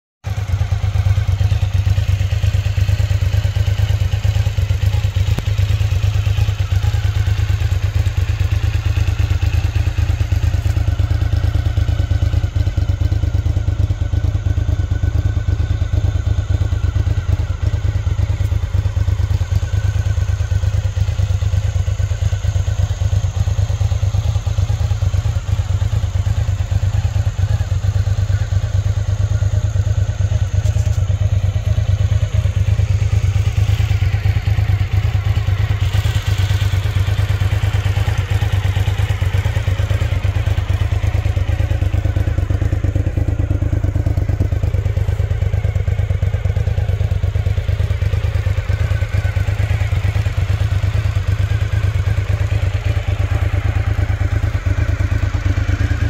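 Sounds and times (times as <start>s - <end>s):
motorcycle engine idling: 0.2s - 56.0s.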